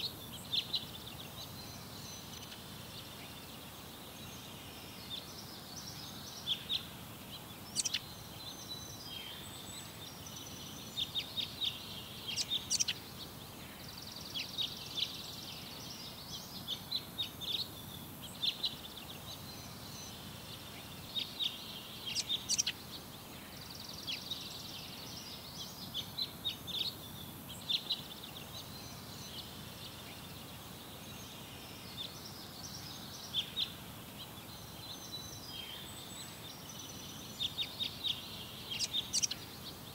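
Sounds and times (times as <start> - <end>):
small birds chirping and trilling: 0.0 - 39.9
steady background hiss: 0.0 - 39.9.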